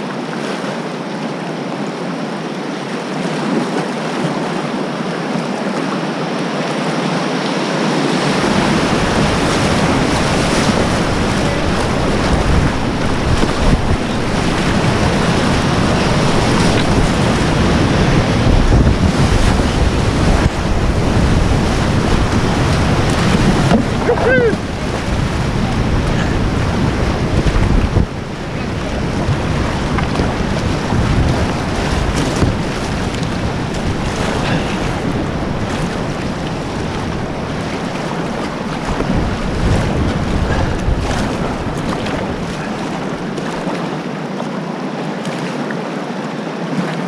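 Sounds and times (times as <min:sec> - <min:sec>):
river rapid rushing: 0:00.0 - 0:47.0
wind rumble on microphone: 0:00.0 - 0:47.0.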